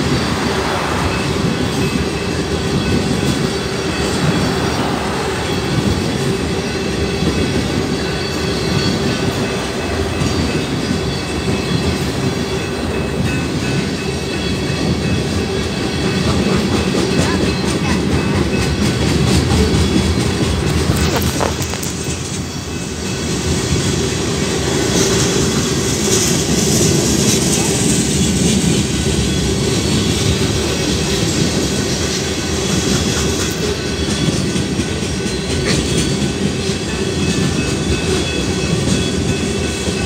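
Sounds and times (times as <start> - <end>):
train wheels rolling on rail: 0.0 - 40.0.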